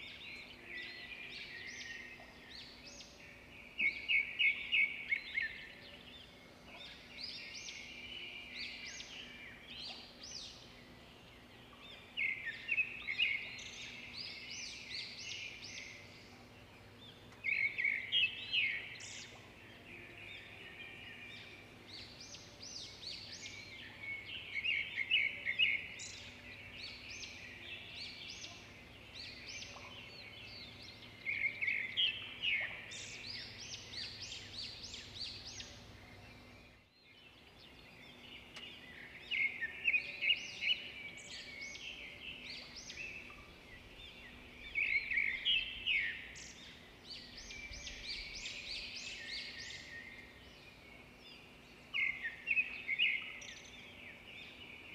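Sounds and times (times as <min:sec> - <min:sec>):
birds chirping: 0:00.0 - 0:54.9
faint steady hum: 0:00.0 - 0:54.9.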